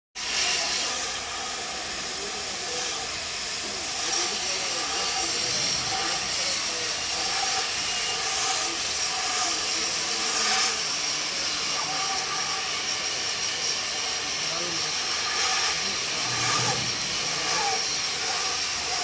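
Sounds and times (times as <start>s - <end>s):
gas cutting torch hissing: 0.2s - 19.0s.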